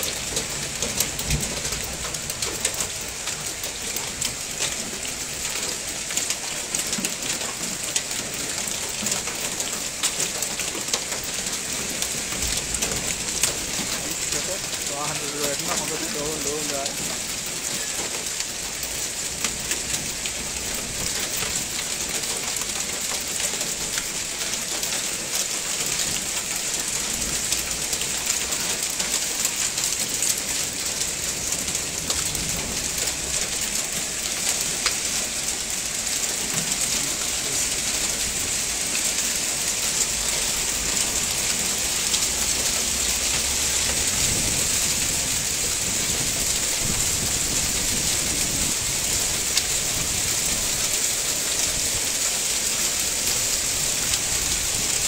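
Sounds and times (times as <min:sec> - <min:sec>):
hail and rain pelting down: 0:00.0 - 0:55.0
hailstones ticking on car roofs: 0:00.0 - 0:55.0.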